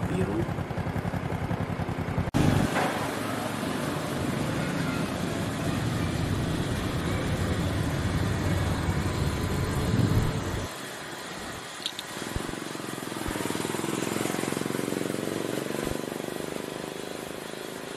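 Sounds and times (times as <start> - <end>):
low rumble of motor vehicles: 0.0 - 17.9.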